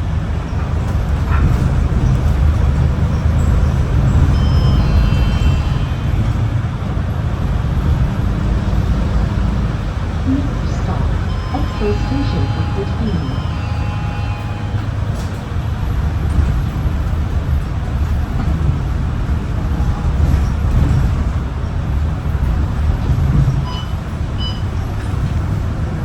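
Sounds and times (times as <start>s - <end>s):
bus engine rumble: 0.0s - 26.0s
road noise: 0.0s - 26.0s.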